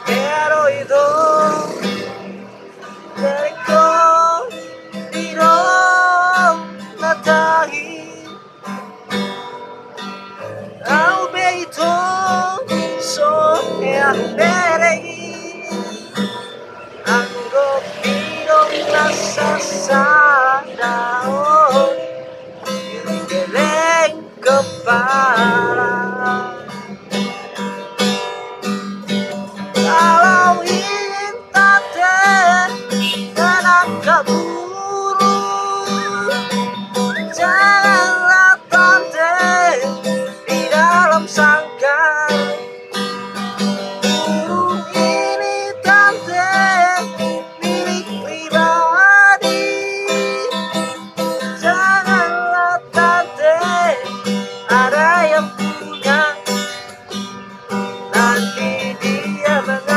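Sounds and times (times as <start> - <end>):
man singing: 0.0 - 8.5, 10.4 - 27.0, 29.7 - 42.7, 44.0 - 57.1, 58.0 - 59.9
acoustic guitar strumming: 0.0 - 59.9.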